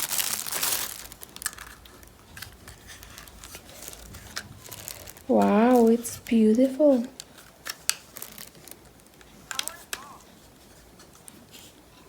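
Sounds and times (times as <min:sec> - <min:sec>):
packaging clicks: 0:00.0 - 0:10.3
packaging rustling: 0:00.0 - 0:12.0.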